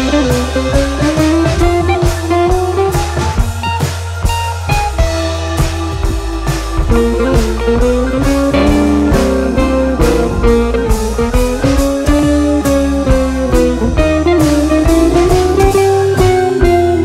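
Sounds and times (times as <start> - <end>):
bass: 0.0 - 17.0
guitar: 0.0 - 17.0
steady drum beat: 0.0 - 17.0.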